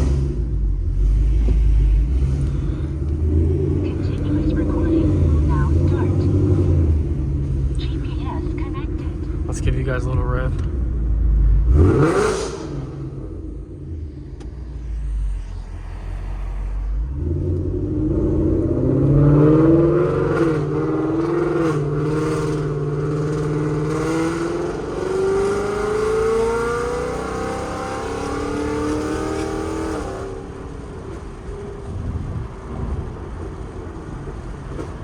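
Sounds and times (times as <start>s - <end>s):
car engine idling and revving: 0.0s - 35.0s.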